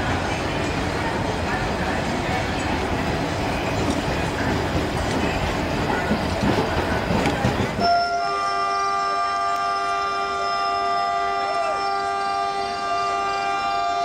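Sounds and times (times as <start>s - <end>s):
train rumbling and clattering: 0.0s - 14.0s
voices: 0.0s - 14.0s.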